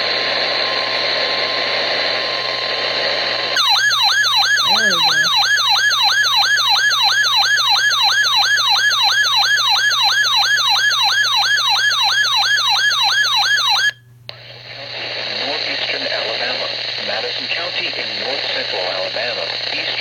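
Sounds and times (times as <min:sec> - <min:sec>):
faint steady hum: 0:00.2 - 0:20.0.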